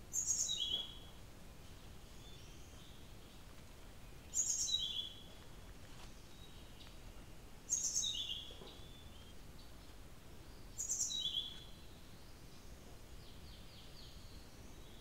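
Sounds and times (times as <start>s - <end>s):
light steady hiss: 0.0s - 15.0s.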